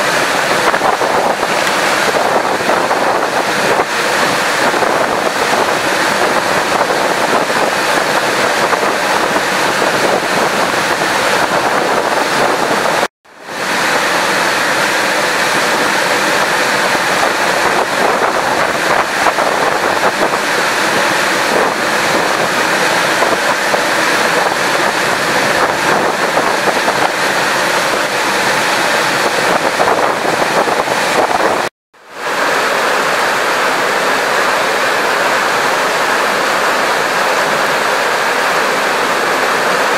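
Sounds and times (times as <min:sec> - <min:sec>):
rain pouring onto river water: 0:00.0 - 0:39.9.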